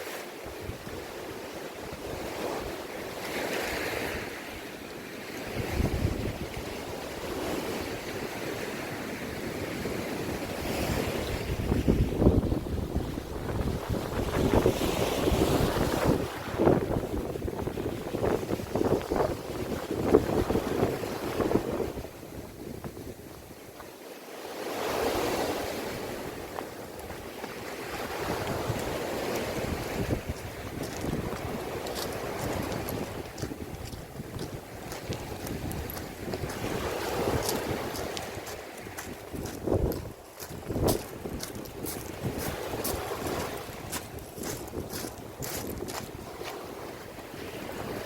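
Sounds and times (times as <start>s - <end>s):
sea waves washing in: 0.0s - 48.0s
wind buffeting microphone: 5.2s - 23.6s, 24.8s - 48.0s.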